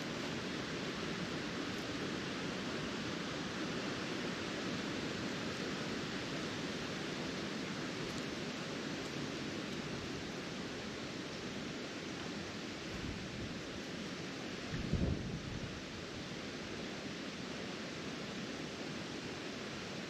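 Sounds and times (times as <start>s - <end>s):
wind blowing through trees: 0.0s - 20.0s.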